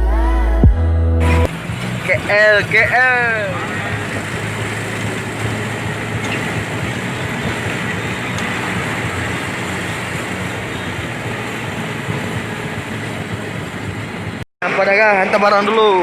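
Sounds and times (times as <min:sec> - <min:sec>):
vehicle engine: 0:00.6 - 0:16.0
road noise: 0:01.2 - 0:16.0.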